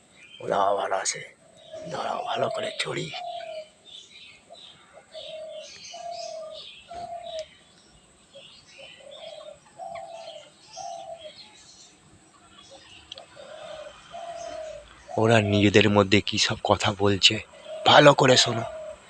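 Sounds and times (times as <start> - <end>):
birds calling low notes: 0.0 - 19.0
high bird chirps: 0.0 - 19.0.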